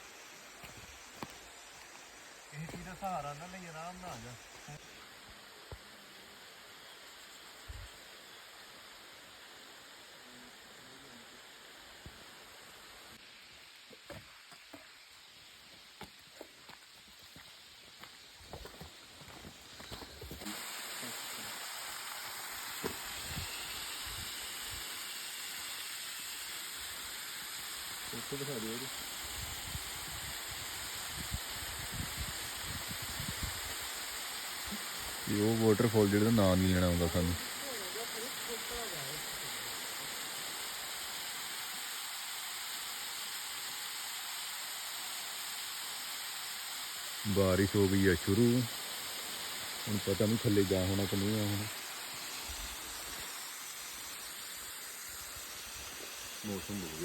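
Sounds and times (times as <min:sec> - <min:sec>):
rush of falling water: 0:00.0 - 0:14.5, 0:20.3 - 0:57.0.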